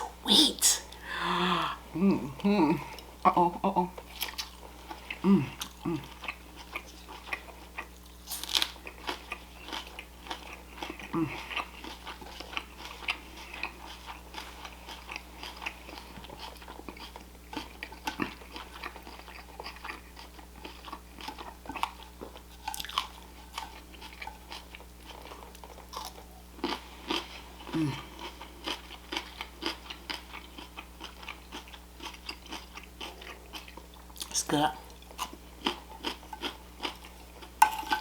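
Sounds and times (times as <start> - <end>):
chewing and crunching: 3.9 - 38.0.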